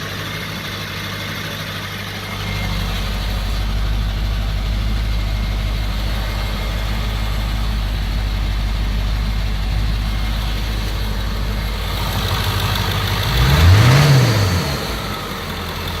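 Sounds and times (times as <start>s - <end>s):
diesel engine idling: 0.0s - 16.0s
diesel engine revving: 0.0s - 16.0s.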